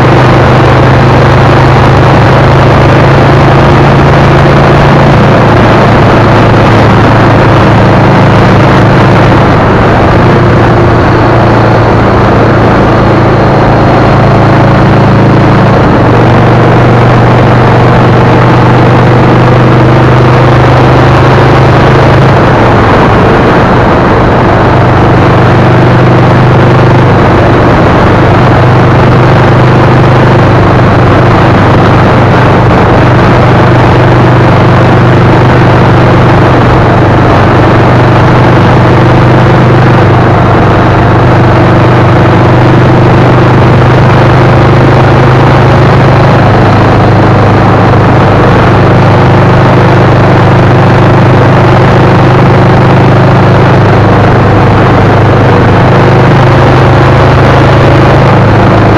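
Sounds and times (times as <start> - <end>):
constant low hum: 0.0 - 58.9
tyre and road noise: 0.0 - 58.9
vehicle engine drone: 0.0 - 58.9.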